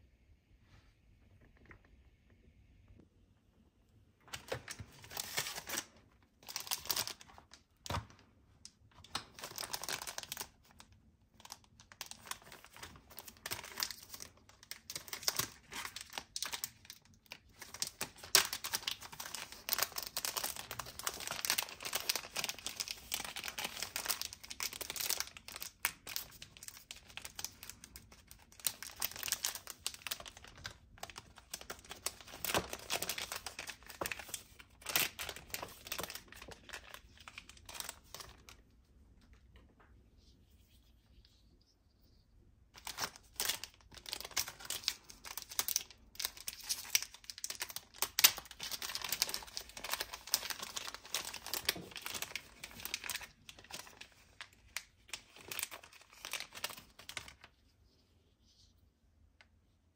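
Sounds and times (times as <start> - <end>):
plastic packaging crinkling: 4.2 - 38.7, 42.8 - 57.6.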